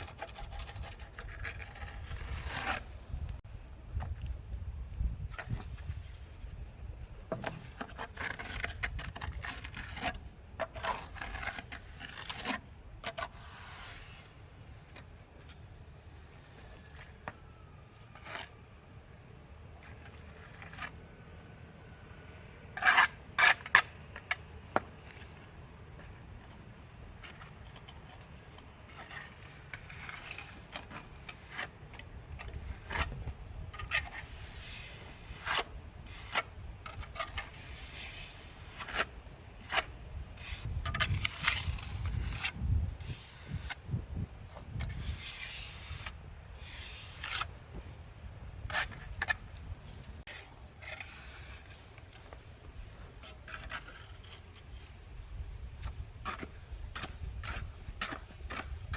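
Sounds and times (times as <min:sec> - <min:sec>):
scraping and rubbing: 0:00.0 - 0:04.1, 0:07.3 - 0:18.6, 0:19.8 - 0:21.0, 0:22.8 - 0:58.9.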